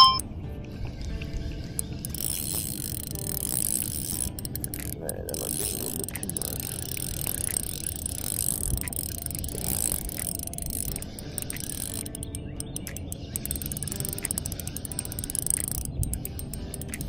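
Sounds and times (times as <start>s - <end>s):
fishing reel gears turning: 1.7s - 17.0s.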